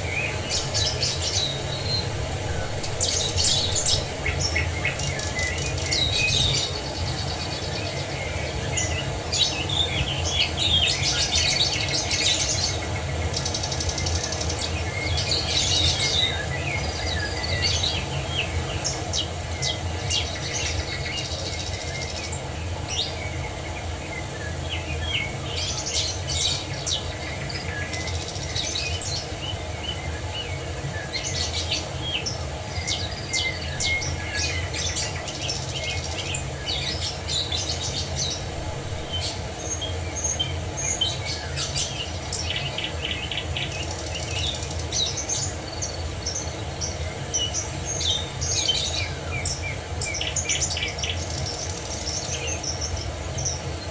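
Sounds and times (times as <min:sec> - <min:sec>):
birds singing: 0:00.0 - 0:53.9.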